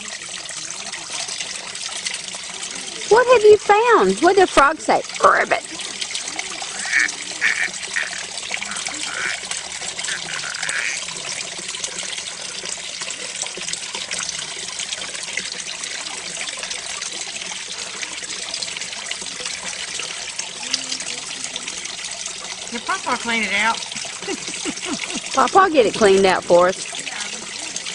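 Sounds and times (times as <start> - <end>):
fountain water splashing: 0.0 - 27.9.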